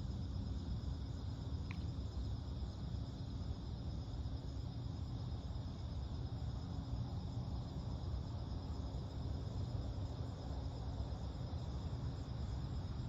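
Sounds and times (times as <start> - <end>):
constant low rumble: 0.0 - 13.0
crickets trilling: 0.0 - 13.0.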